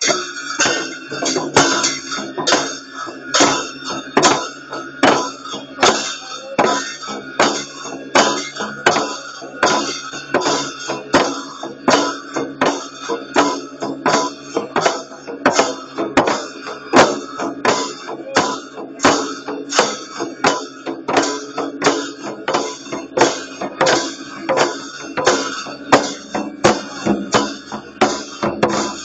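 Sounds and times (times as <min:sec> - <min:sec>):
hand drum beating: 0:00.0 - 0:29.0.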